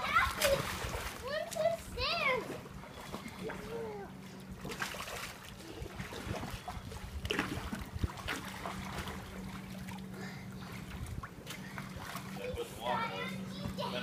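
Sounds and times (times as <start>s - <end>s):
pool water splashing and lapping: 0.0s - 14.0s
steady low hum: 0.0s - 14.0s.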